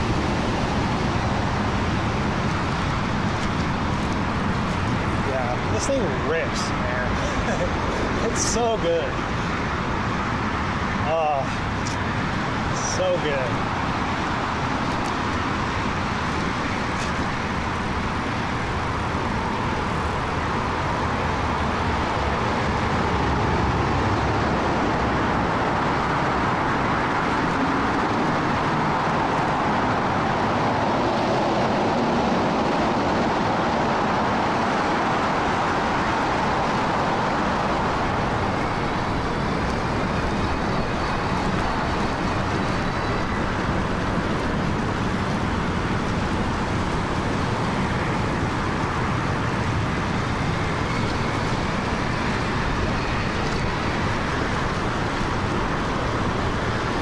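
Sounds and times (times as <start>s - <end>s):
road and tyre noise: 0.0s - 57.0s
wind rush over microphone: 0.0s - 57.0s.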